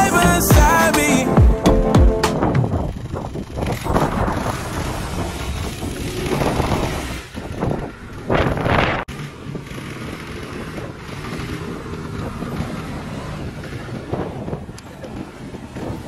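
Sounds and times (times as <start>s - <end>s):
quad bike engine running: 1.4s - 16.0s
wind buffeting microphone: 2.3s - 16.0s.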